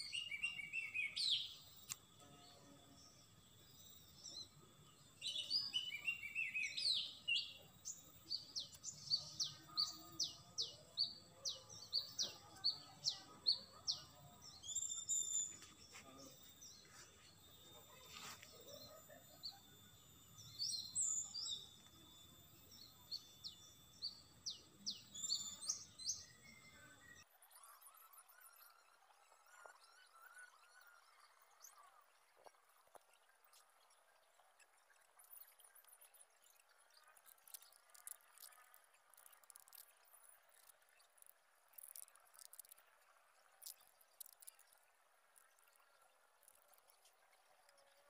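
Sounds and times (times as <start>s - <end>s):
small bird chirping: 0.0s - 48.0s.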